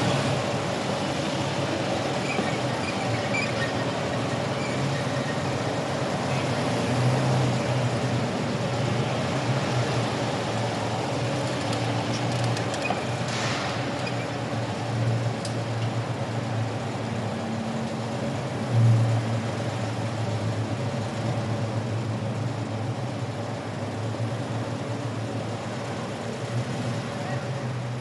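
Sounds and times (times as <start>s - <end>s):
car driving slowly: 0.0s - 28.0s.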